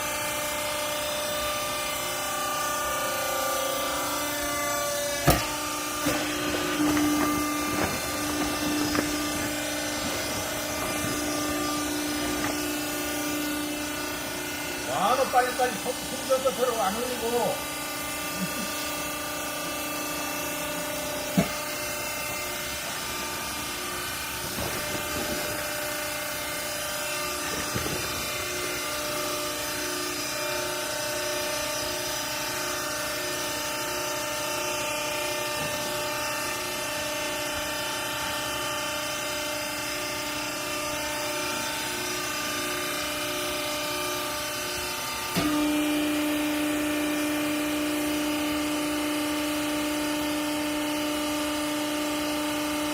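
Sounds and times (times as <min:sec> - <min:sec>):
baler motor and pump whining: 0:00.0 - 0:52.9.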